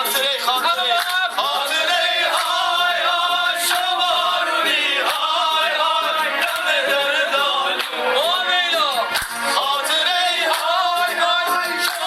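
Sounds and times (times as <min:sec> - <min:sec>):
music with singing voices: 0:00.0 - 0:12.0.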